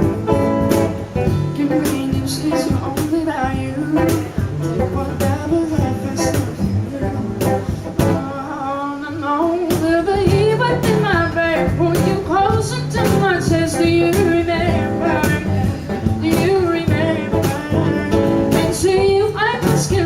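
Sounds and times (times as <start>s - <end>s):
cajon hits: 0.0s - 8.2s, 9.7s - 20.0s
strummed acoustic guitar: 0.0s - 20.0s
person singing: 1.4s - 20.0s.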